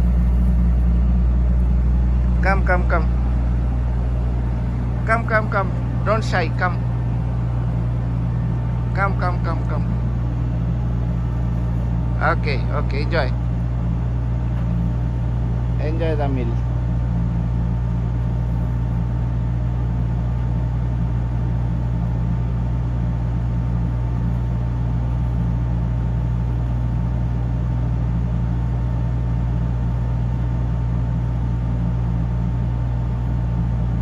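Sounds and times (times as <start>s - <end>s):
ship engines droning: 0.0s - 27.6s
thin steady whine: 0.0s - 34.0s.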